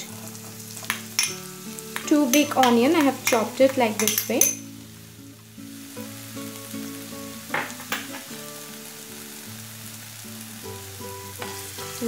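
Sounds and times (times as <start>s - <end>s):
onions sizzling in hot oil: 0.0s - 12.0s
soft background music: 0.0s - 12.0s.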